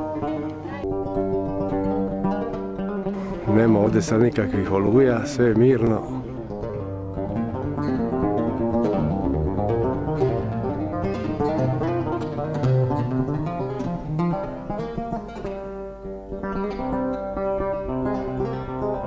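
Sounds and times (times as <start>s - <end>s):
oud melody: 0.0s - 19.0s.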